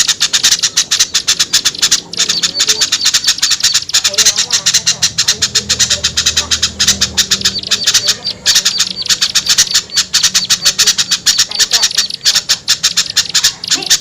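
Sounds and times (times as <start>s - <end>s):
songbirds chattering and scolding: 0.0s - 14.0s.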